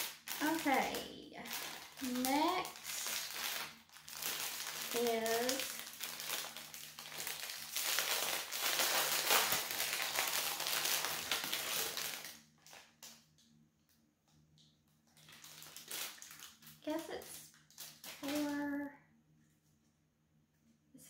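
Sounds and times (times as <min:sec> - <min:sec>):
packaging crinkling and rustling: 0:00.0 - 0:13.5, 0:15.0 - 0:18.7.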